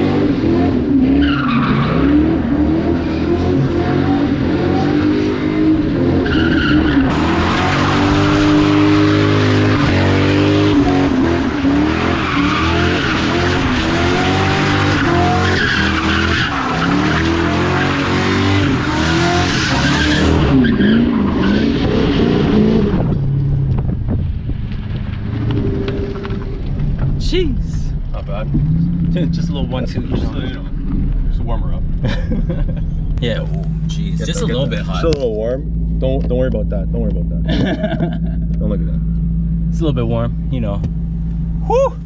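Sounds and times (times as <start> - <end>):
car engine revving: 0.0 - 41.8.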